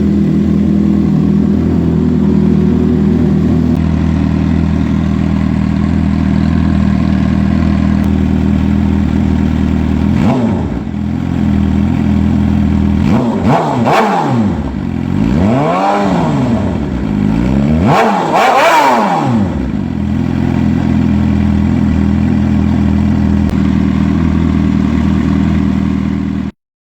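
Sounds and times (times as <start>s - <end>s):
engine revving: 0.0s - 22.0s
motorcycle engine idling: 0.0s - 26.5s.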